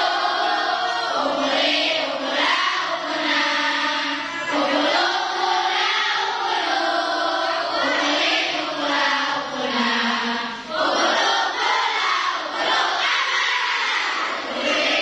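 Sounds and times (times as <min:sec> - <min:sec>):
women chanting in unison: 0:00.0 - 0:15.0.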